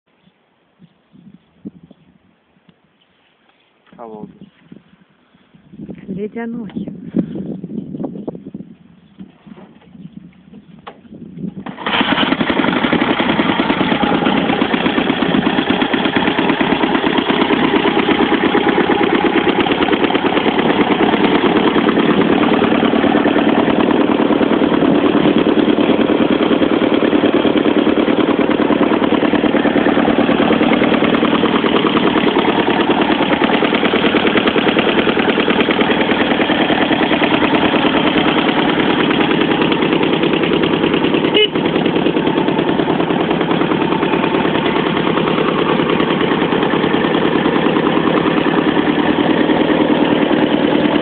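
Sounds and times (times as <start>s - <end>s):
motorcycle engine idling: 9.9s - 51.0s.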